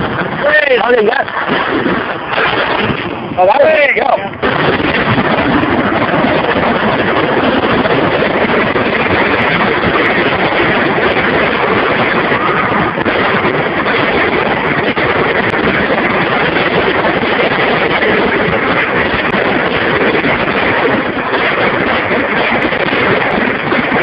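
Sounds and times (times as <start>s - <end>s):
fireworks barrage: 0.0s - 24.0s.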